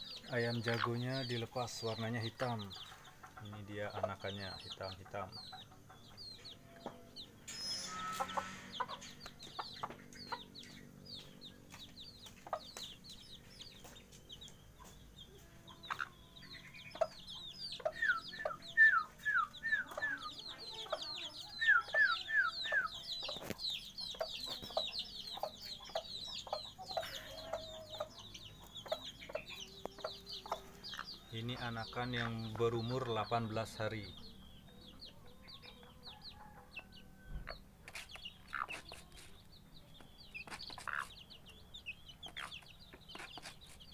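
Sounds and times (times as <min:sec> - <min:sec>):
chicks cheeping: 0:00.0 - 0:43.9.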